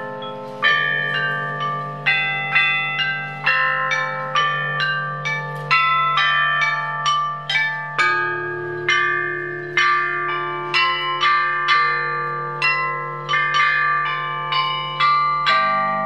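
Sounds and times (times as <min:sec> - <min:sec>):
bronze chime bells melody: 0:00.0 - 0:16.0.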